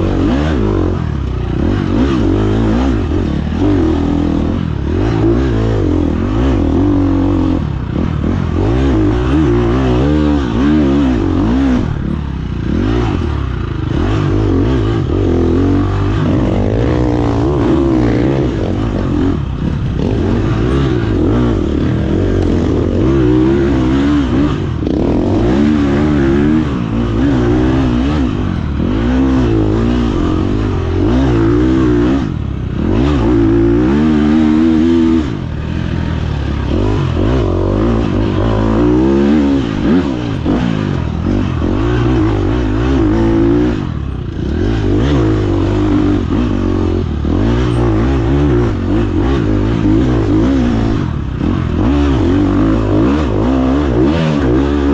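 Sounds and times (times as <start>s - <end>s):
bike rattling and scraping: 0.0s - 54.9s
dirt bike engine revving: 0.0s - 54.9s.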